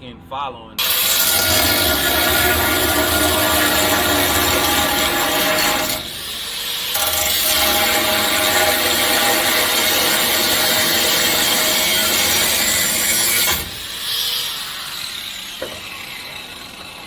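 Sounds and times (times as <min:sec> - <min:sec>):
power tool cutting steel pipe: 0:00.8 - 0:17.0.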